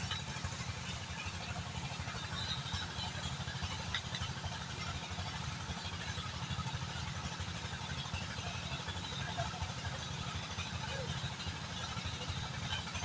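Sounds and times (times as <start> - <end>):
small engine chugging: 0.0 - 13.0.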